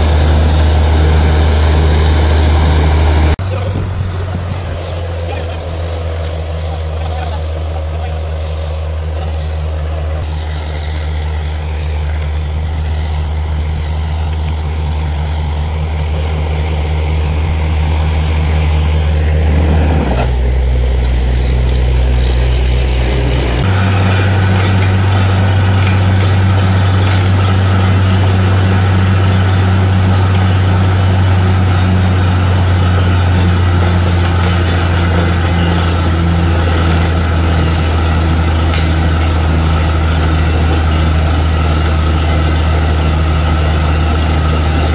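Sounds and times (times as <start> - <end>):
drilling rig engine drone: 0.0 - 44.9.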